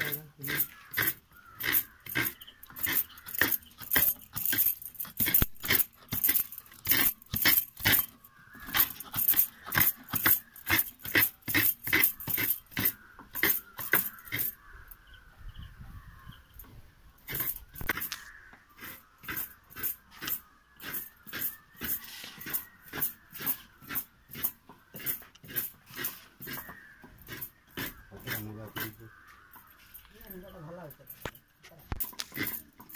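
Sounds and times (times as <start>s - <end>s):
coconut being grated by hand: 0.0s - 14.4s, 17.3s - 29.1s, 32.1s - 32.9s.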